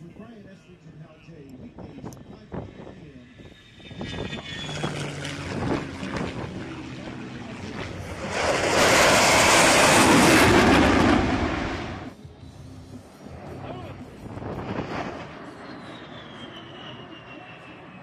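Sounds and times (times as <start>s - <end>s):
jet flying past low: 2.2s - 18.0s.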